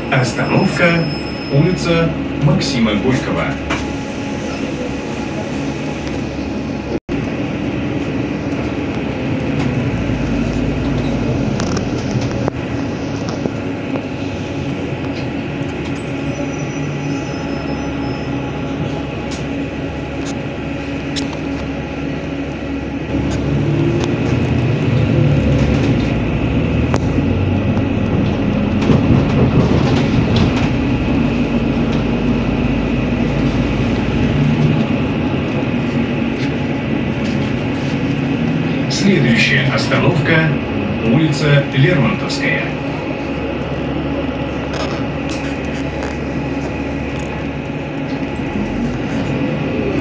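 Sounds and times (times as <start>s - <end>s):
bus engine and drivetrain noise: 0.0s - 50.0s
road rumble: 0.0s - 50.0s.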